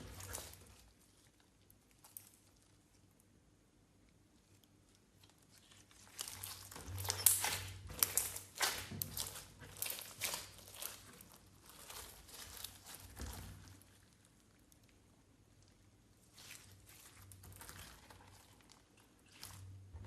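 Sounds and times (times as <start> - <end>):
slime squished by hand: 0.0 - 3.2, 4.0 - 20.0.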